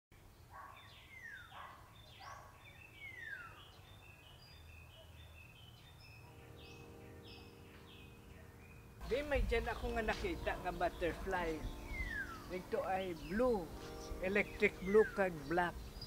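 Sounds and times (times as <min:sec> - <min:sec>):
high bird chirps: 0:00.4 - 0:09.0, 0:09.6 - 0:16.0.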